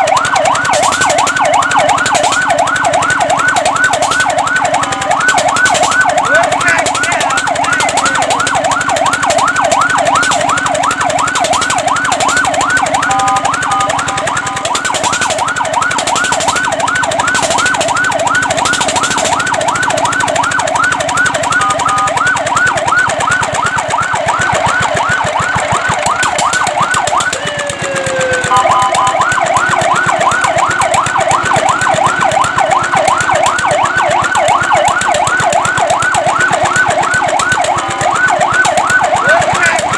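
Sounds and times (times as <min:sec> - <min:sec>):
fire truck siren yelp: 0:00.0 - 0:39.9.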